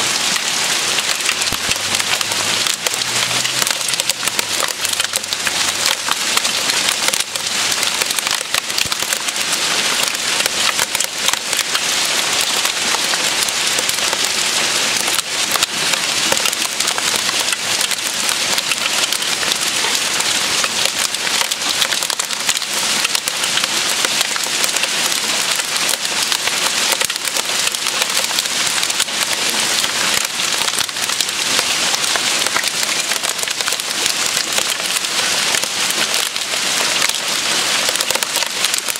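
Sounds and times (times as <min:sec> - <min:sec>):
hail pattering on leaves: 0:00.0 - 0:38.9.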